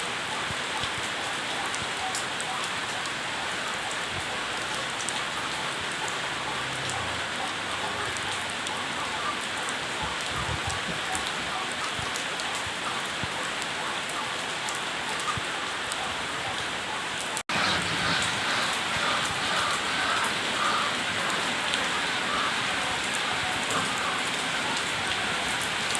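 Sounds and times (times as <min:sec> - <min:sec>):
rain falling: 0:00.0 - 0:25.9
raindrop ticks: 0:00.0 - 0:25.9.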